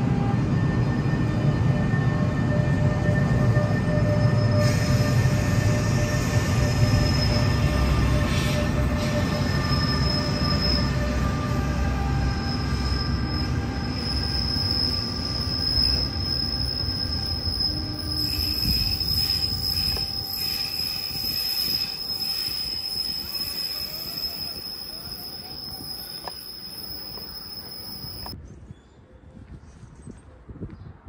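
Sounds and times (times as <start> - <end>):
train rumble: 0.0 - 28.4
train wheels squealing: 0.1 - 28.4.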